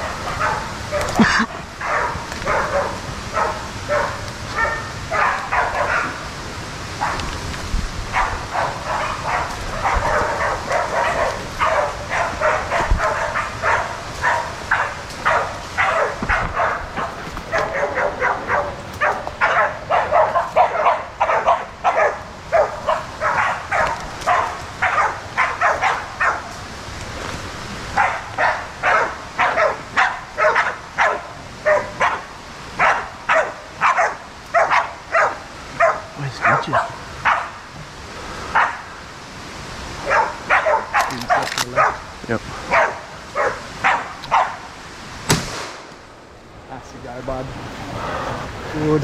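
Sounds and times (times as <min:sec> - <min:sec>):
dogs barking: 0:00.0 - 0:26.7, 0:27.9 - 0:37.8, 0:38.4 - 0:39.0, 0:40.0 - 0:44.8.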